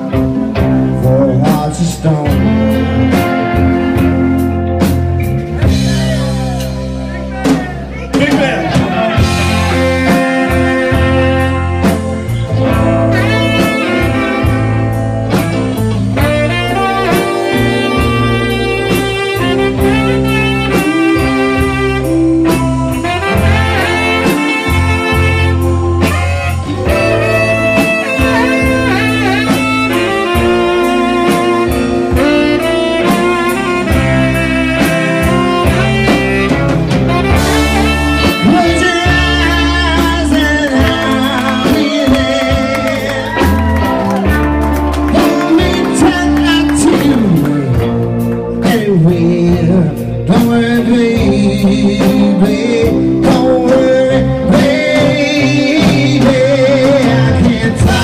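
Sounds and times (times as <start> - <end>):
bass guitar: 0.0 - 58.0
drums: 0.0 - 58.0
electric guitar: 0.0 - 58.0
saxophone solo: 2.2 - 48.9.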